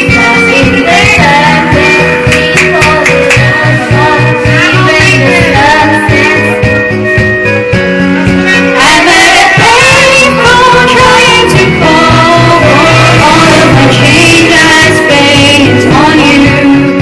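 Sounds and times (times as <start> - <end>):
woman singing pop song: 0.0 - 6.9, 8.6 - 17.0
backing track: 0.0 - 17.0.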